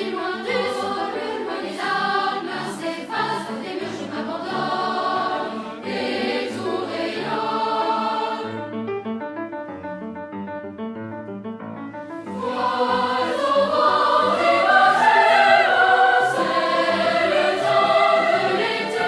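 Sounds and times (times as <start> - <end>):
music with choral singing: 0.0 - 8.7, 12.2 - 19.0.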